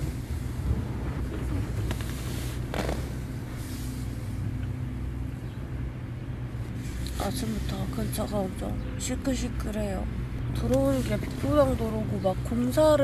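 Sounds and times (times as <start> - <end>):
machinery engine rumbling: 0.0 - 13.0.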